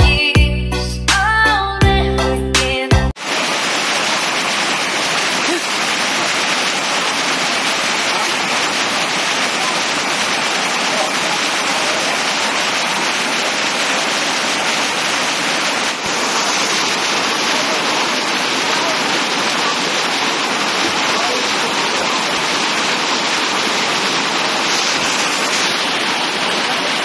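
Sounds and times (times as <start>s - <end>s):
heavy rain on water: 3.2s - 27.0s.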